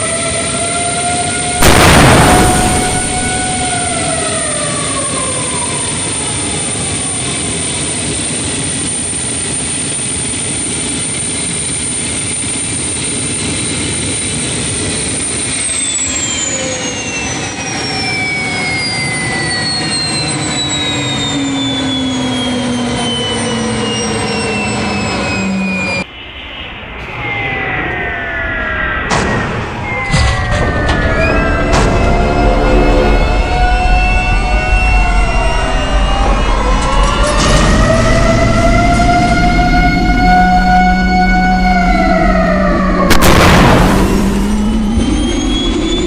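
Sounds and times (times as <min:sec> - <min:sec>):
jet engine roar with whine: 0:00.0 - 0:46.0.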